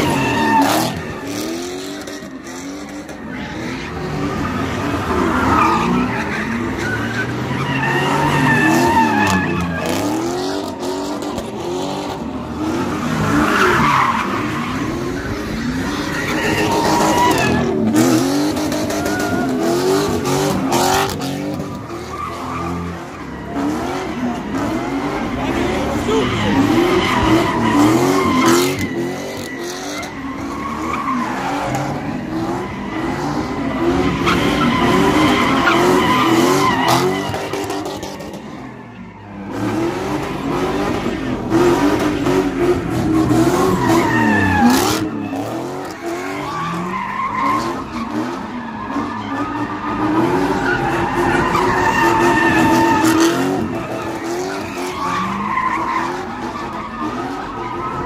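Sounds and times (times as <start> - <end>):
car engines revving: 0.0 - 58.0
tyres screeching on pavement: 0.0 - 58.0.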